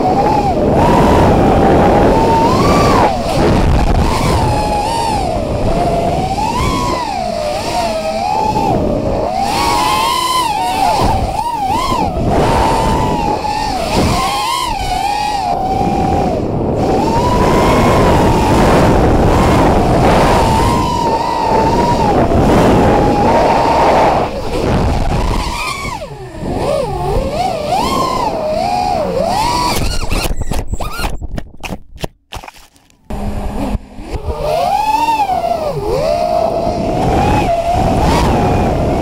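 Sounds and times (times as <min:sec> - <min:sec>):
drone motors whining: 0:00.0 - 0:31.3, 0:33.1 - 0:39.0
wind rush: 0:00.0 - 0:31.7, 0:33.1 - 0:39.0.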